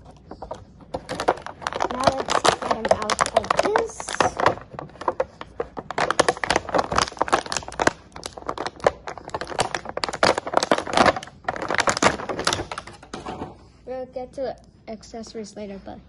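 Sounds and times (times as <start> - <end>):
plastic tray crinkling: 0.0 - 13.6.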